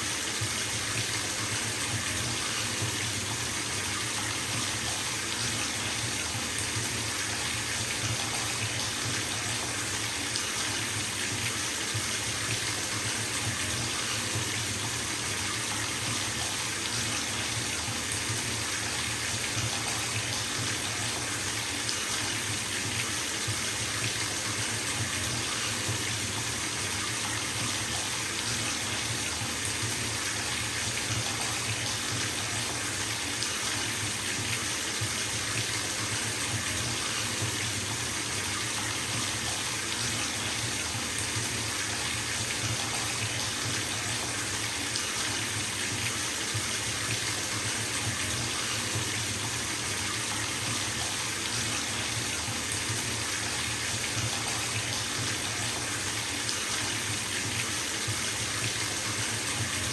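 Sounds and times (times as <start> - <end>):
water pouring into bathtub: 0.0 - 59.9.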